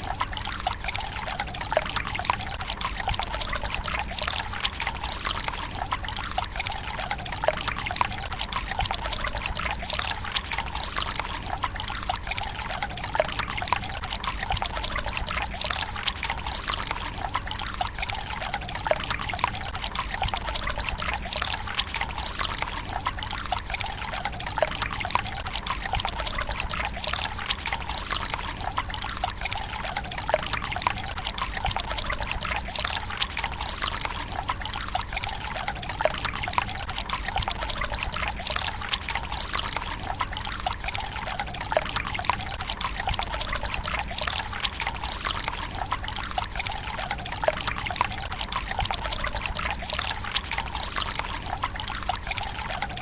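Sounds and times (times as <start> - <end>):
water trickling into stone basin: 0.0 - 53.0.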